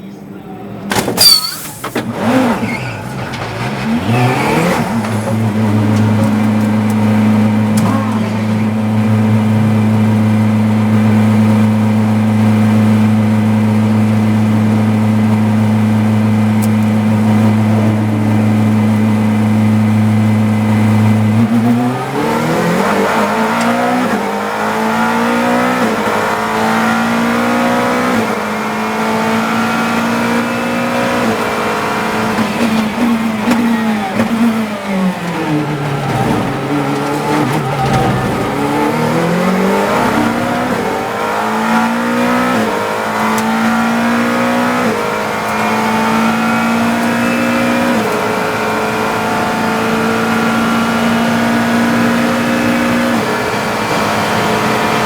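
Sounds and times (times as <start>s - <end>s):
race car engine revving: 0.5s - 55.0s.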